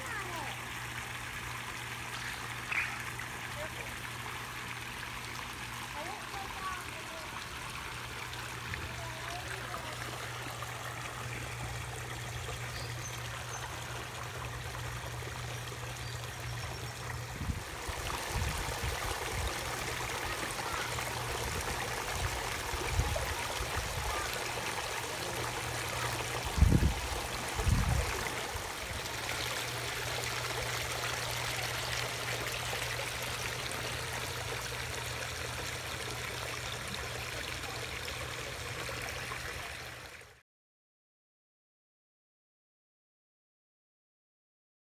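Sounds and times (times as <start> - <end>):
water flowing over rocks: 0.0 - 40.4.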